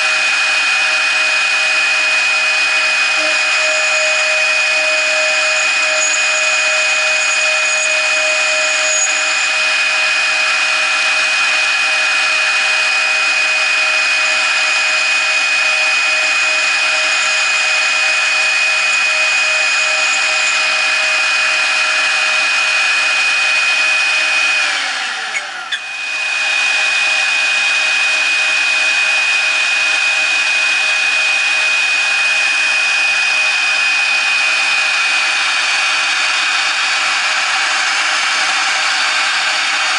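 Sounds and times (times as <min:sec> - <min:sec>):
end mill cutting metal: 0:00.0 - 0:39.9
router spindle high whine: 0:00.0 - 0:39.9.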